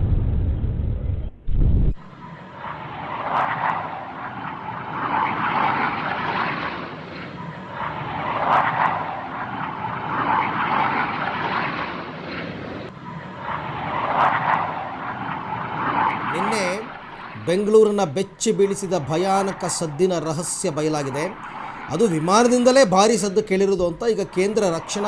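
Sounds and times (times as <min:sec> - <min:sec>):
jet engine roar: 0:01.9 - 0:25.0.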